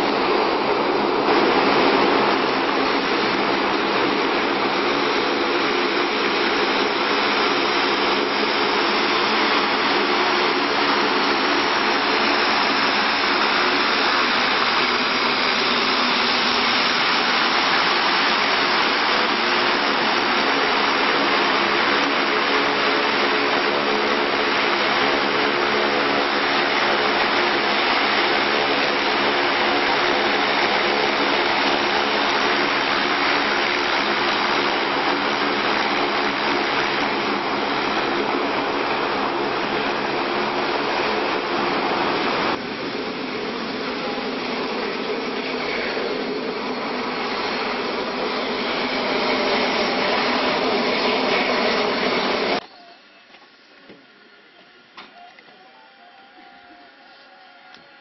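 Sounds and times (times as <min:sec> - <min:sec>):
turboprop engines droning: 0:00.0 - 0:52.6.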